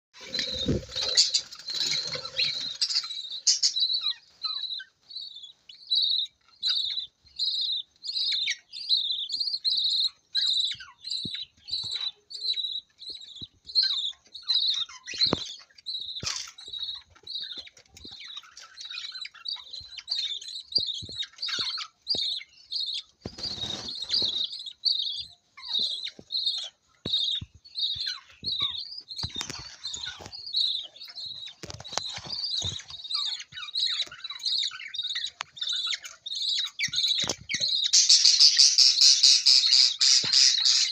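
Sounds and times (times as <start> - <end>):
chicks cheeping: 0.2 - 40.9.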